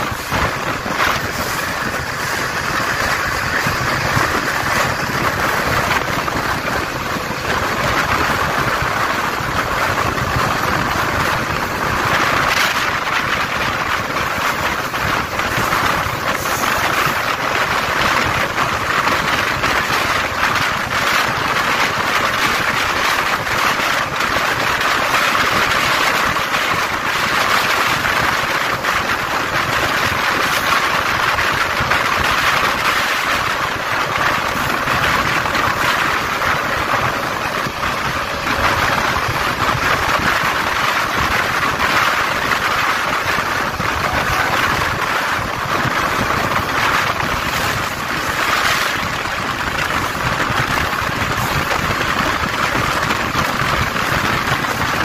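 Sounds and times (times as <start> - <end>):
train rushing on rails: 0.0 - 55.0.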